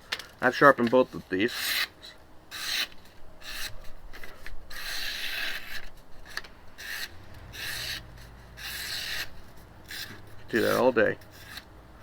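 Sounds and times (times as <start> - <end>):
knife scraping wood: 0.7 - 11.7.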